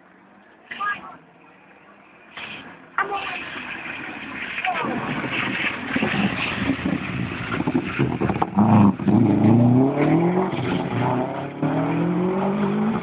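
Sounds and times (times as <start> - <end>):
car engine accelerating hard: 2.3 - 13.0.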